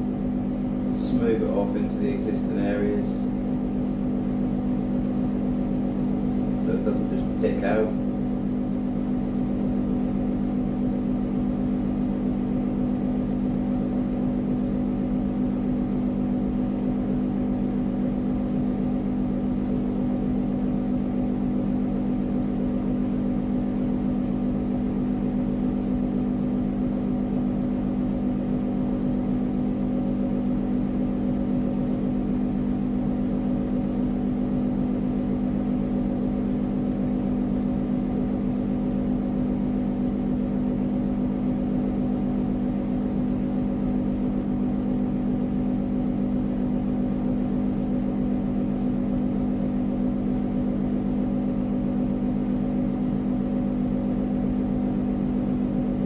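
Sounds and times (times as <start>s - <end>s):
low machine hum: 0.0s - 56.0s.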